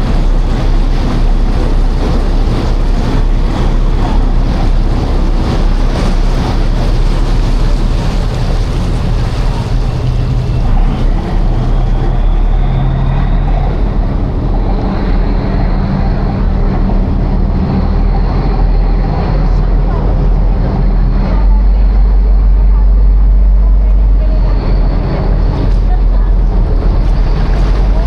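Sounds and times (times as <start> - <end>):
ferry engine humming: 0.0 - 28.0
sea water rushing along hull: 0.0 - 28.0
wind noise on microphone: 0.0 - 28.0.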